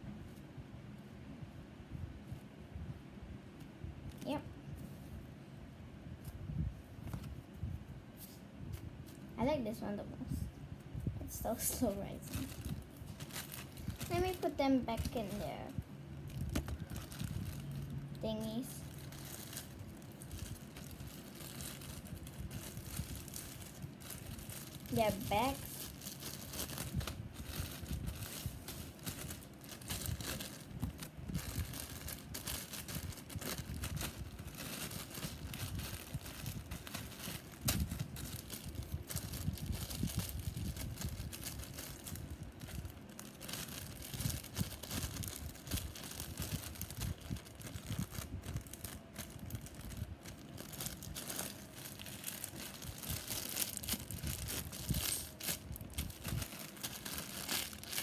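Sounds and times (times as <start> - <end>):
plastic bags crinkling: 11.3 - 58.0.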